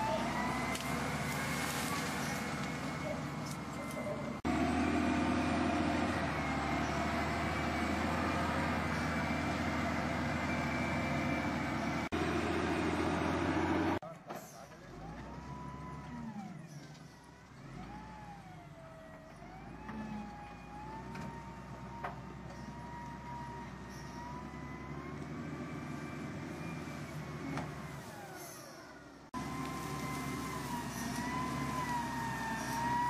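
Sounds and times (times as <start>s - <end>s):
wheel loader diesel engine hum: 0.0s - 33.0s.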